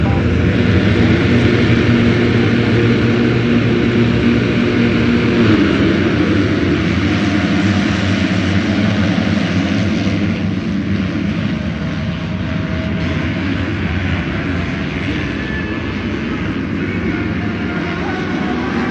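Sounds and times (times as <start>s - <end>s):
motocross bikes racing: 0.0s - 18.9s.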